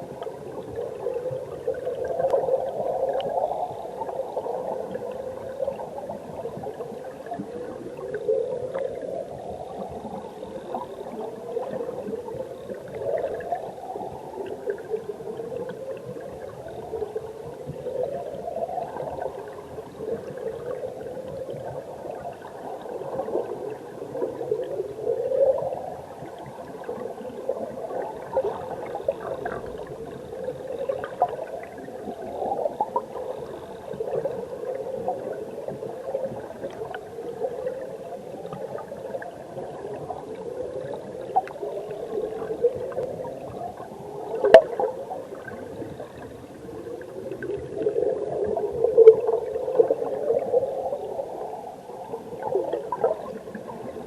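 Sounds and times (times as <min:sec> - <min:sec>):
underwater stream churning and gurgling: 0:00.0 - 0:54.0.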